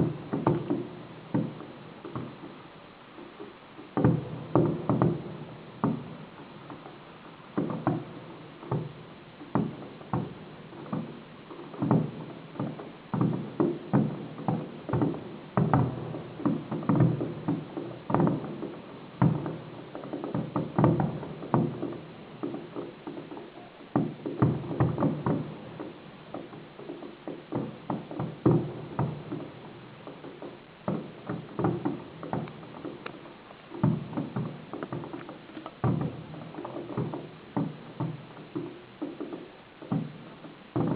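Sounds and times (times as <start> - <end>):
fireworks bursting with echo: 0.0 - 40.9.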